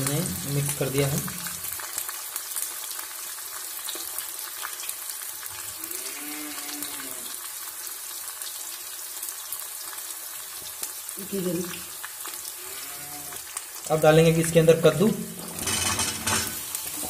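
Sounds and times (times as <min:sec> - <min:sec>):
crackling pops of frying: 0:00.0 - 0:05.9, 0:06.6 - 0:12.6, 0:13.4 - 0:17.0
onions sizzling in oil: 0:00.0 - 0:17.0.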